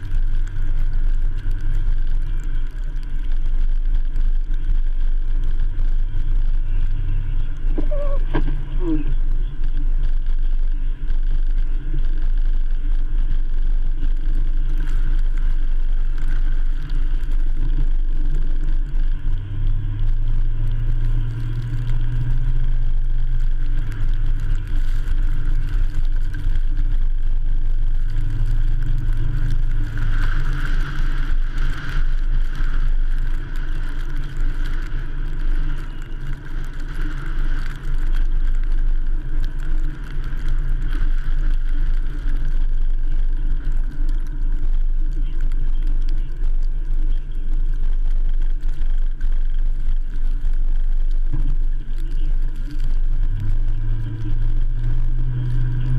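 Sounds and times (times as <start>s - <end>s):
truck engine and tyre rumble: 0.0s - 55.9s.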